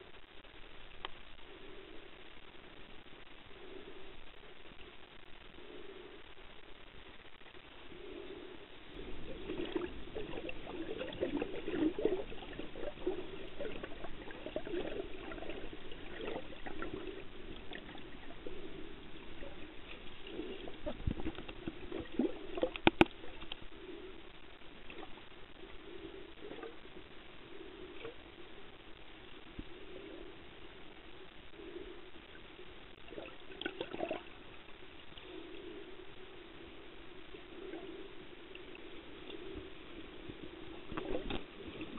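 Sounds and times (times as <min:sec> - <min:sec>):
muffled underwater sloshing: 0:07.0 - 0:41.9.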